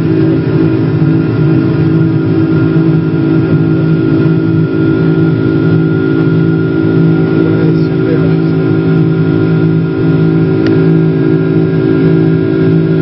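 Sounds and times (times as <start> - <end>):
constant engine hums: 0.0 - 13.0
jet engines rumbling in cabin: 0.0 - 13.0.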